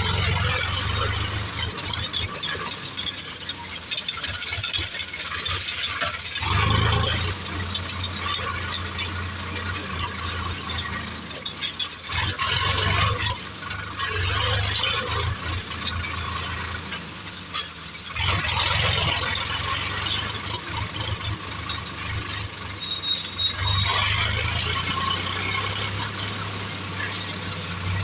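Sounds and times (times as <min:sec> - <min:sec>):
diesel engine clattering: 0:00.0 - 0:28.0.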